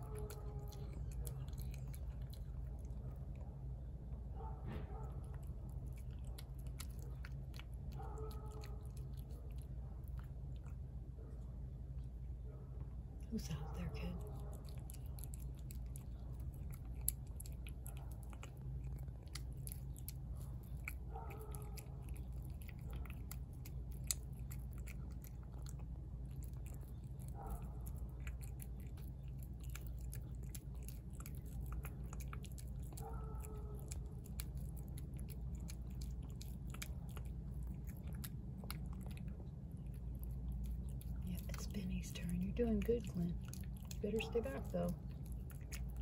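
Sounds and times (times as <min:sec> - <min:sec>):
cat chewing and licking: 0:00.0 - 0:46.0
steady low hum: 0:00.0 - 0:46.0.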